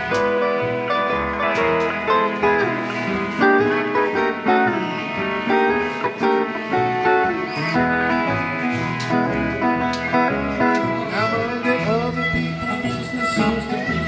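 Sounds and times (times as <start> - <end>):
steel guitar sliding notes: 0.0 - 14.0
western swing band playing: 0.0 - 14.0.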